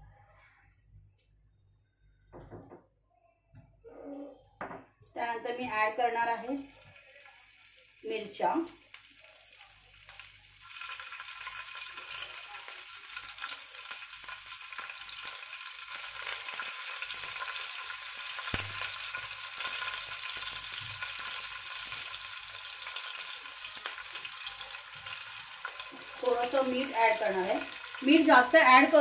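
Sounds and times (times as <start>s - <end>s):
chillies sizzling in hot oil: 5.2s - 29.0s.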